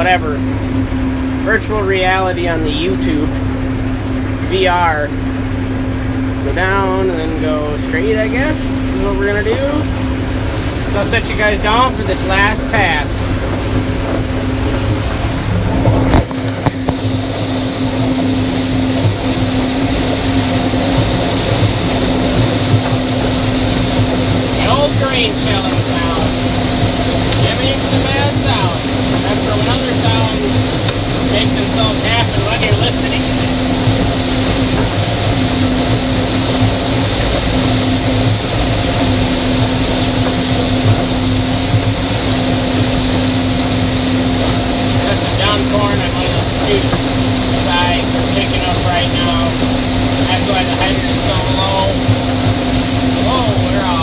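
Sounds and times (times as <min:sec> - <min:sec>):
combine engine and machinery drone: 0:00.0 - 0:54.0.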